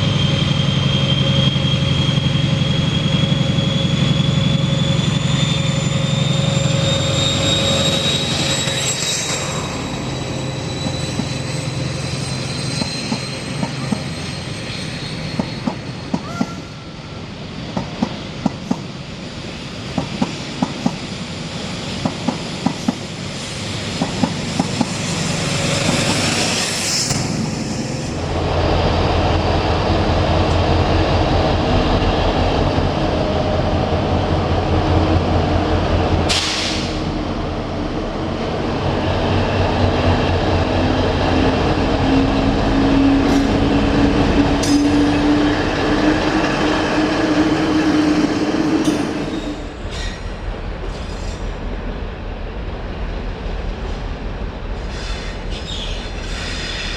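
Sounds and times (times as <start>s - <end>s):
train rumbling: 0.0s - 56.9s.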